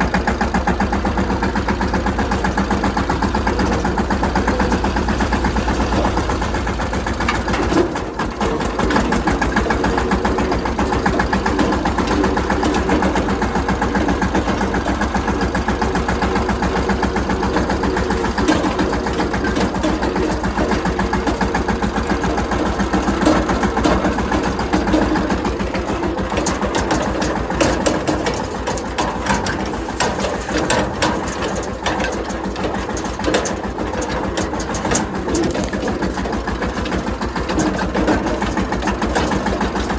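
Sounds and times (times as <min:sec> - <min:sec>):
clattering and rattling: 0:00.0 - 0:39.9
tractor diesel engine chugging: 0:00.0 - 0:39.9.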